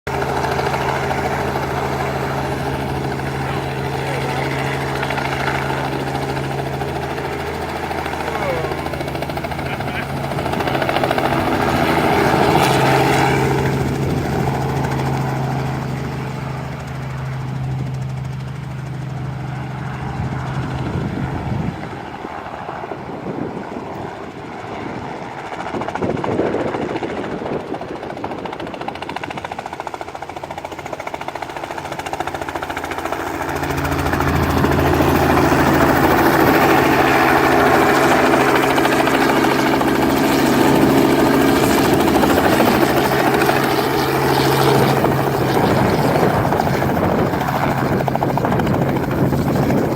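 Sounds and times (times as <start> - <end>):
helicopter rotor beating: 0.1 - 49.9.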